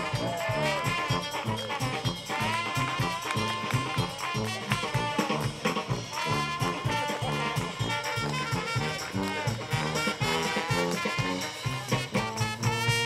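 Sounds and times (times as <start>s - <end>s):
drum kit swing beat: 0.0s - 13.0s
sousaphone bass line: 0.0s - 13.0s
trombone: 0.0s - 13.0s
trumpets: 0.0s - 13.0s.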